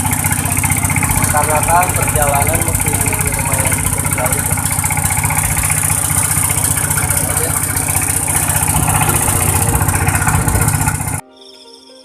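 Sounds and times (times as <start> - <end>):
vehicle engine running: 0.0 - 11.2.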